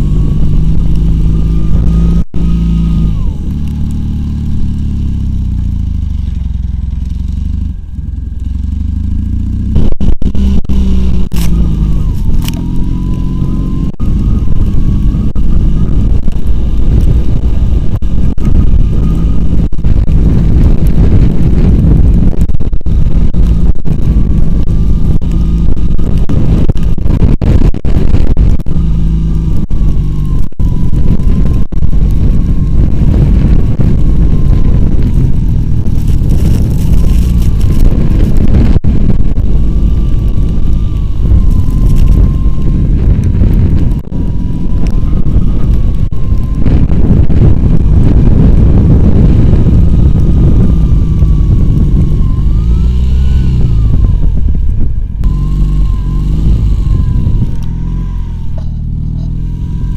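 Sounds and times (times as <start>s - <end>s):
quad bike engine running hard: 0.0s - 59.9s
wavering whine: 0.0s - 59.9s.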